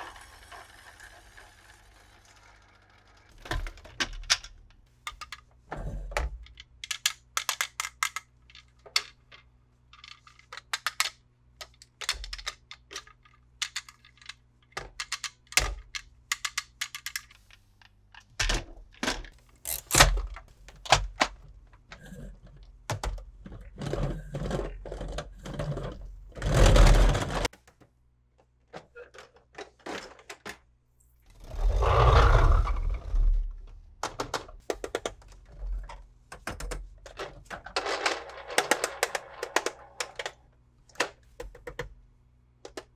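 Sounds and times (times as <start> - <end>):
plastic toys clicking and knocking: 0.0 - 30.7, 34.0 - 42.0, 42.6 - 42.9.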